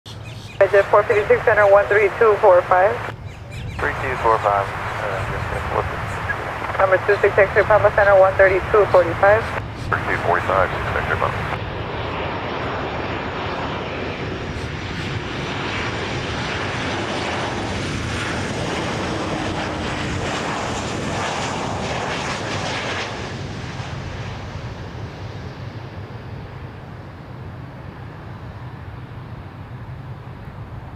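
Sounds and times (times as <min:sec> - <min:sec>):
jet engine rumble with fan whine: 0:00.1 - 0:30.9.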